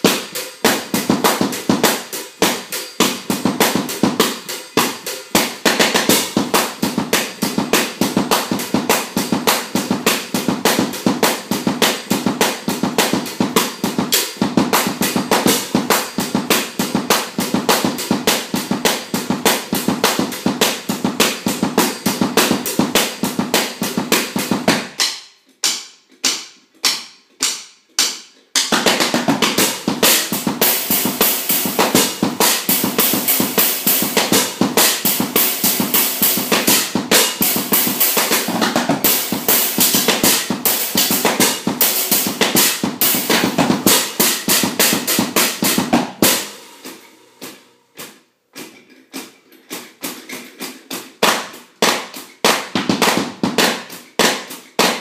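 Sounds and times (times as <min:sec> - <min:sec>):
muted drum kit playing: 0:00.0 - 0:48.7, 0:49.7 - 0:55.0.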